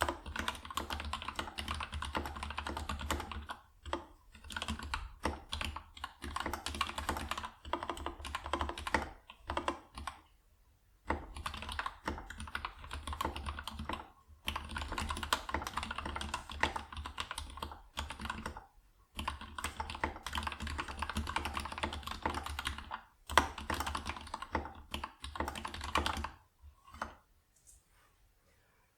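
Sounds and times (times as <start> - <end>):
fast mechanical keyboard typing: 0.0 - 10.2, 11.0 - 27.2.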